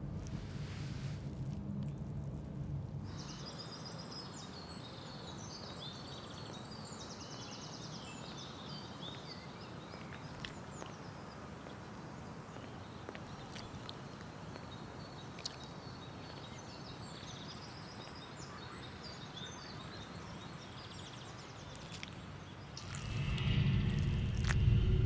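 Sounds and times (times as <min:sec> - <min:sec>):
low outdoor ambience: 0:00.0 - 0:25.0.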